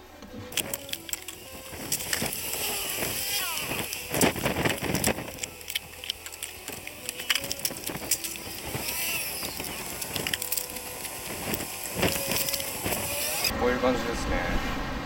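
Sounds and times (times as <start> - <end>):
packaging rustling: 0.5 - 13.5.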